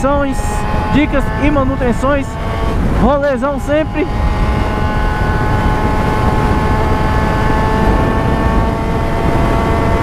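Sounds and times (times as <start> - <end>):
motorcycle engine cruising: 0.0 - 10.0
wind rumble on microphone: 0.0 - 10.0.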